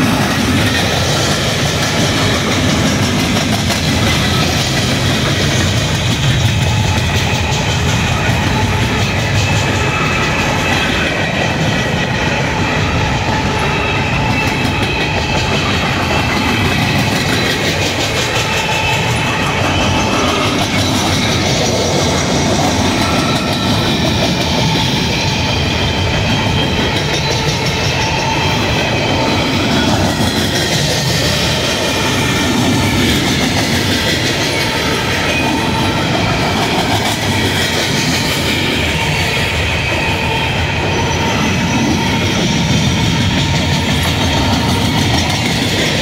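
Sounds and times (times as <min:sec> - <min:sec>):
freight cars rumbling and clattering: 0:00.0 - 0:46.0.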